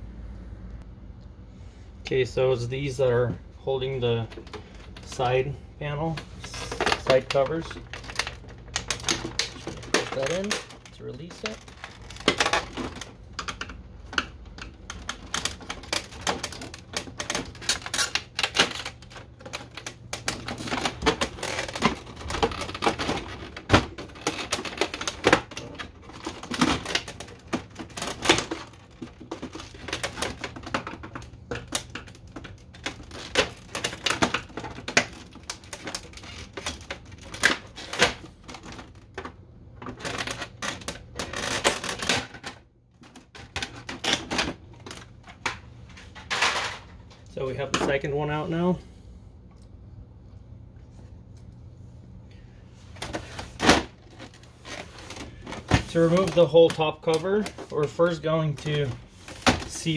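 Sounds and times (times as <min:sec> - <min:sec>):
plastic printer panels rattling: 0:03.9 - 0:45.6, 0:53.0 - 0:59.9.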